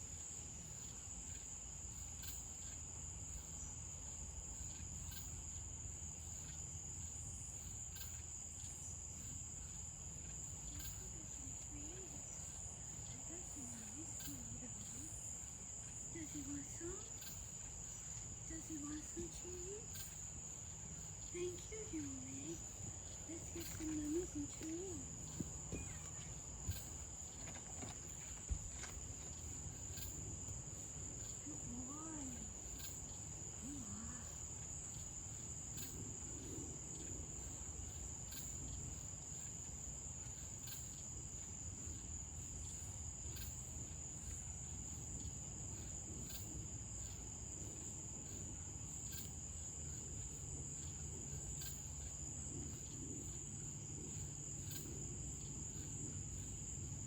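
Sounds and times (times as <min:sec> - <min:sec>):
night insects trilling: 0:00.0 - 0:57.0.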